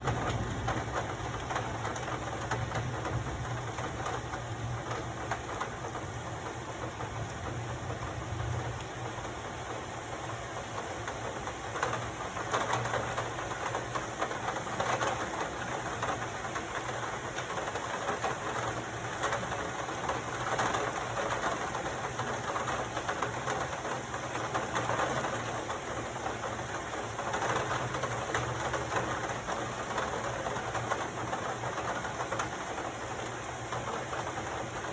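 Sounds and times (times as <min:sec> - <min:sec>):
heavy rain pattering: 0:00.0 - 0:34.9.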